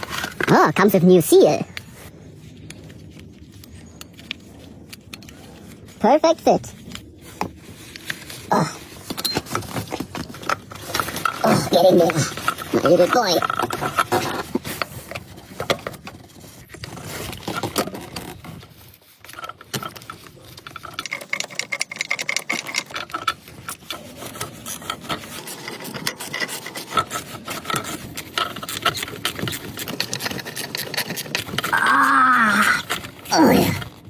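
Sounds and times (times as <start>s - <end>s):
hand tools clicking and scraping: 0.0s - 34.0s.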